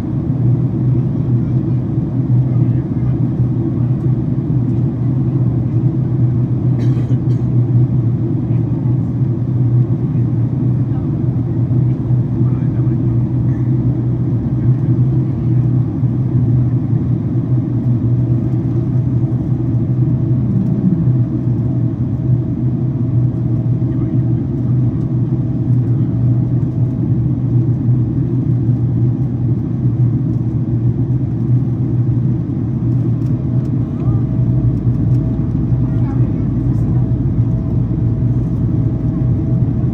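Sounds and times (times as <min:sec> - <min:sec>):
aircraft cabin engine drone: 0:00.0 - 0:39.9.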